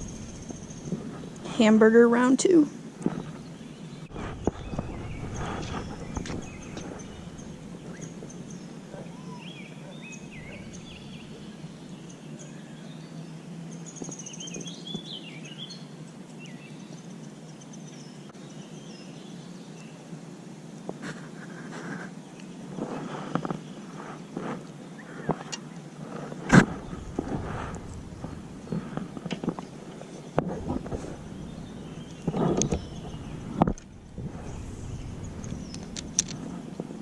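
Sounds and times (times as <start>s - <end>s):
birds chirping: 0.0s - 20.1s, 22.1s - 37.0s
low background hum: 0.0s - 37.0s.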